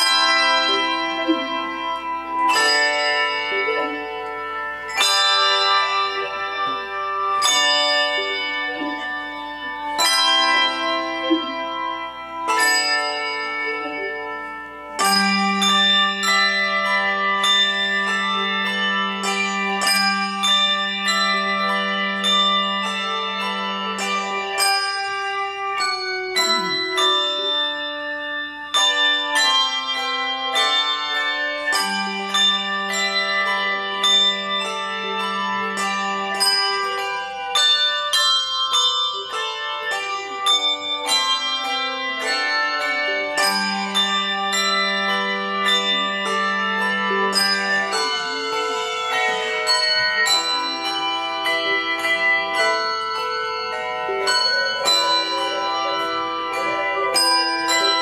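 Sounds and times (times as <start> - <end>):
handbell choir ringing: 0.0 - 58.0.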